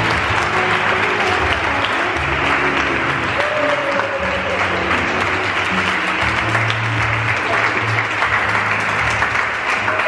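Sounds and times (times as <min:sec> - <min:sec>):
audience applauding: 0:00.0 - 0:10.0
music with bass line: 0:00.0 - 0:10.0.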